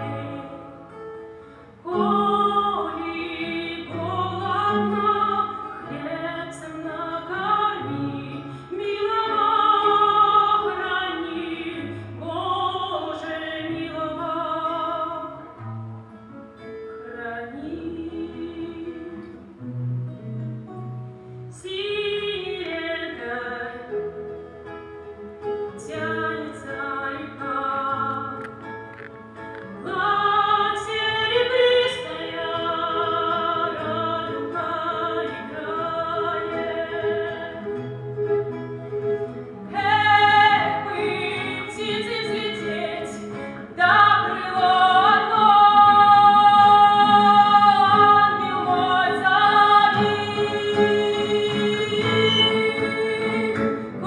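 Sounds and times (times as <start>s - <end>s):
woman singing: 0.0s - 15.6s, 17.0s - 19.6s, 21.5s - 24.4s, 25.7s - 28.7s, 29.6s - 54.0s
guitar: 0.0s - 54.0s.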